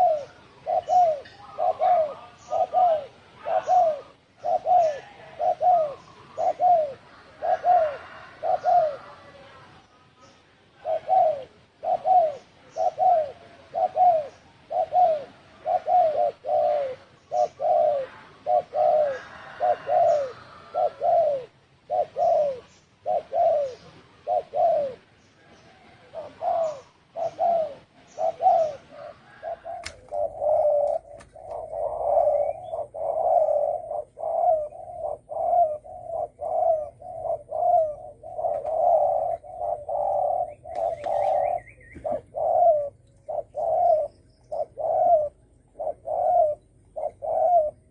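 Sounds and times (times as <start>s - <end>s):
dove cooing: 0.0s - 47.9s.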